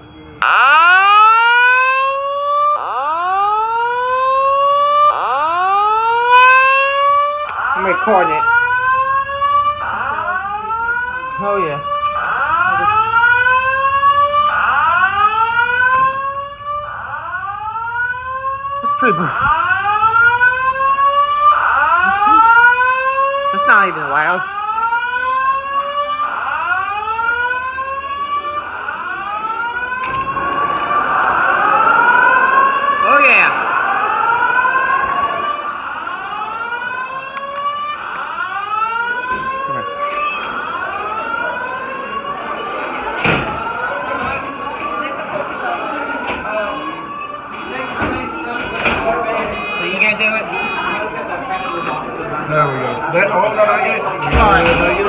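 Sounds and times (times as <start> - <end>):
fire alarm whoop tone: 0.0 - 55.0.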